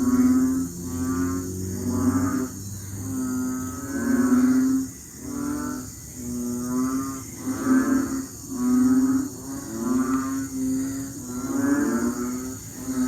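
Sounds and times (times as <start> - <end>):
frogs croaking in chorus: 0.0 - 13.0.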